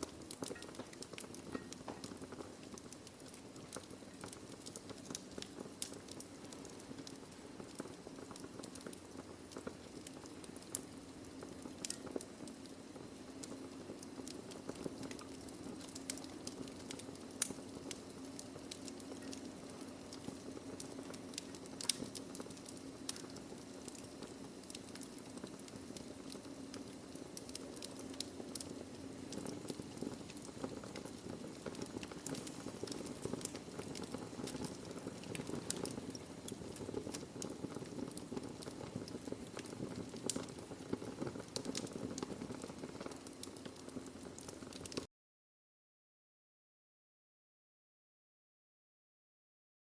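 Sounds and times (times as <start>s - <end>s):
wood fire crackling and popping: 0.0s - 45.1s.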